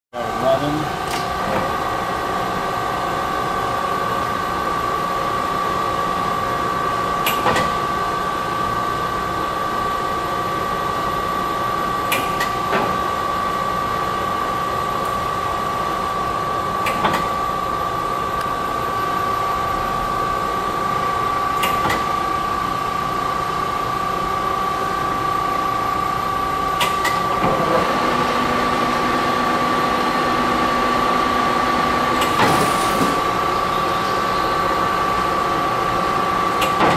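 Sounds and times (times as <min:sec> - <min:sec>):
lathe whine and hum: 0:00.2 - 0:36.9.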